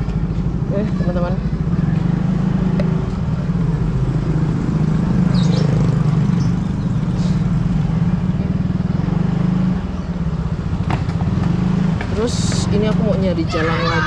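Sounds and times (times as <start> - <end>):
motor scooter engine humming: 0.0 - 14.0.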